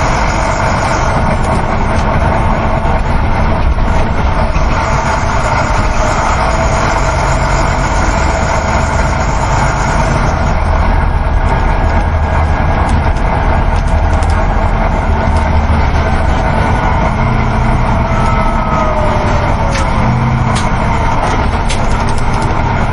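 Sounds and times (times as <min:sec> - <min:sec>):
bus engine drone: 0:00.0 - 0:22.9
road rumble: 0:00.0 - 0:22.9.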